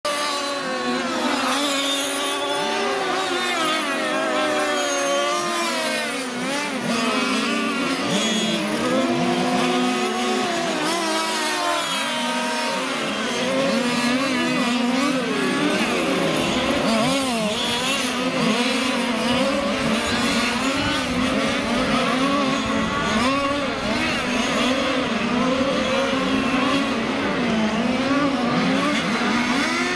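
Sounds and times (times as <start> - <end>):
small two-stroke engines buzzing: 0.1 - 29.9.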